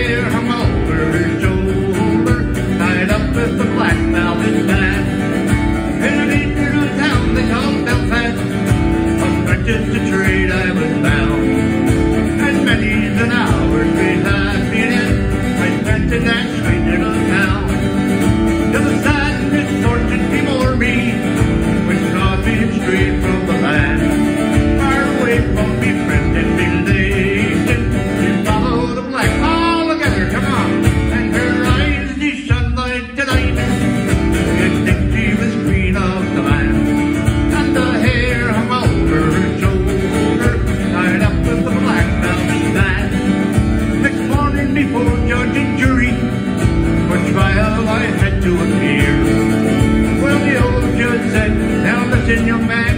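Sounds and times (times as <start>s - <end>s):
acoustic guitar strumming: 0.0s - 52.9s
man singing folk ballad: 0.0s - 52.9s.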